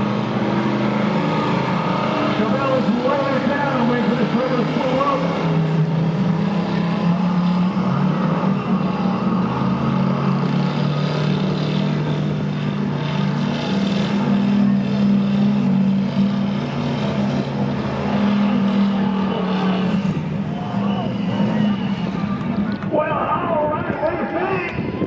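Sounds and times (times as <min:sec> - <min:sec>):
engine at high revs: 0:00.0 - 0:23.7.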